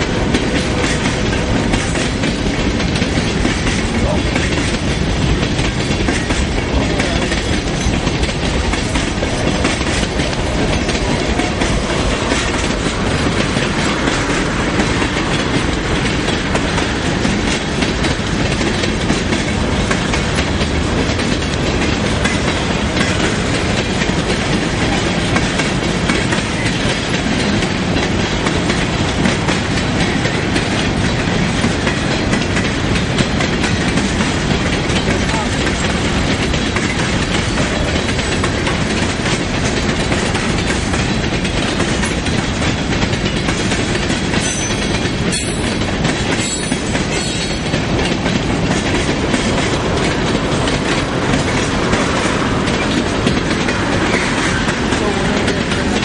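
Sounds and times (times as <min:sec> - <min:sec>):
train wheels clacking on rail joints: 0:00.0 - 0:56.0.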